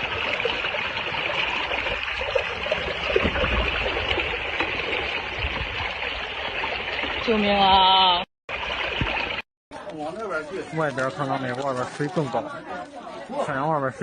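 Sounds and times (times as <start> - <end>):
floodwater flowing and trickling: 0.0 - 14.0.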